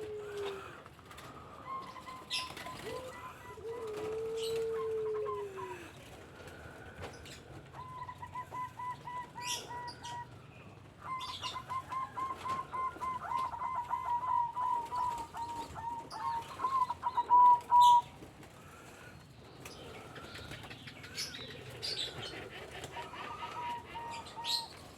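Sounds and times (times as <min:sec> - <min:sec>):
dove calling: 0:00.0 - 0:05.9, 0:06.6 - 0:24.9.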